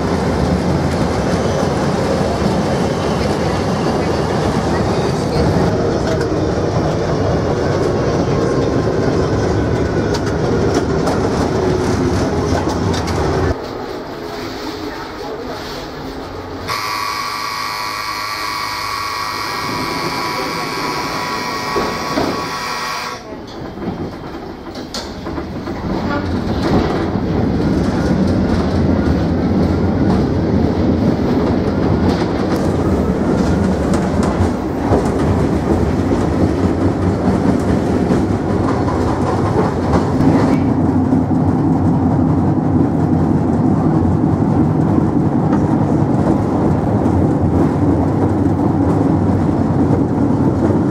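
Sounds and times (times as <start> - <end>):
tram humming tone: 0.0 - 50.9
tram wheels rumbling on rails: 0.0 - 50.9.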